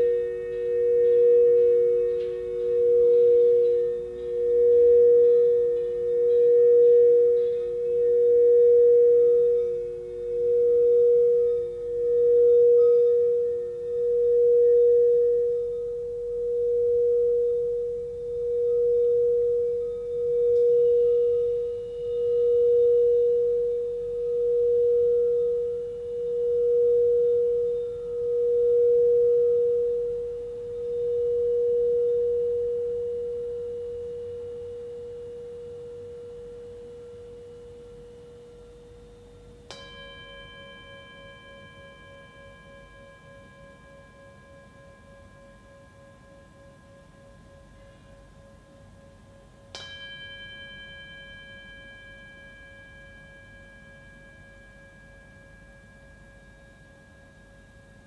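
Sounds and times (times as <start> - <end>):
brass singing bowl struck: 0.0 - 58.0
crystal singing bowl tone: 0.0 - 58.0.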